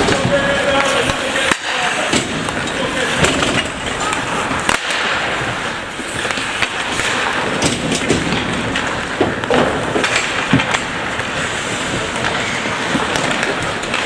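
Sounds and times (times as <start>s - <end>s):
hockey sticks and puck clacking: 0.0s - 14.0s
skates scraping on ice: 0.0s - 14.0s.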